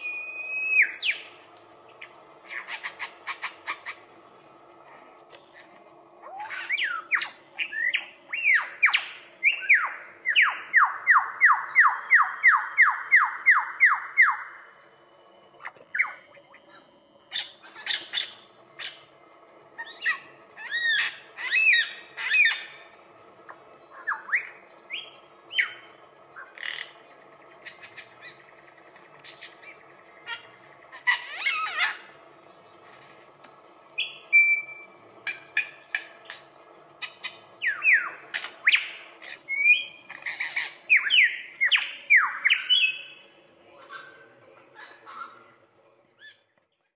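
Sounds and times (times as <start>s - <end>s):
lyrebird singing: 0.0s - 46.9s.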